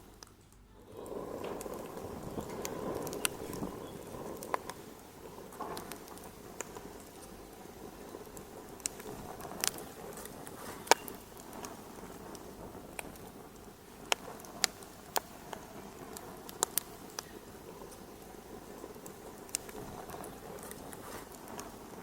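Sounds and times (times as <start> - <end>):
low rush of flame: 0.0 - 22.0
wood fire pops and snaps: 0.0 - 22.0.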